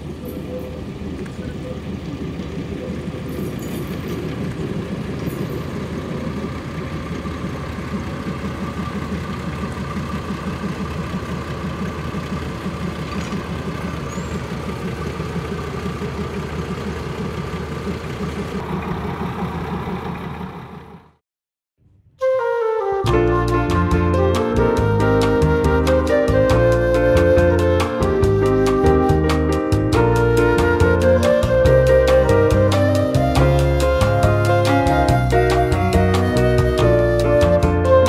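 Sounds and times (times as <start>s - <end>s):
diesel railcar engine rumbling: 0.0s - 21.2s, 22.4s - 38.0s.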